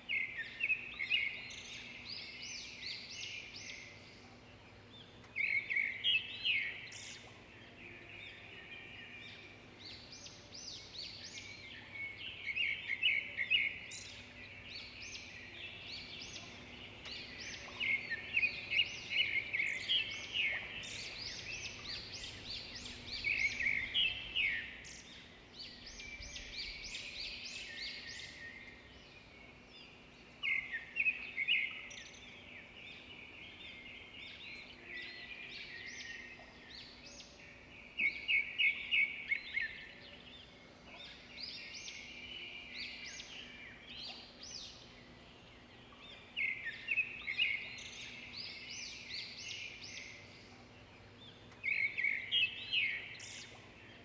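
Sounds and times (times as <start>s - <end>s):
small birds chirping: 9.3s - 54.0s.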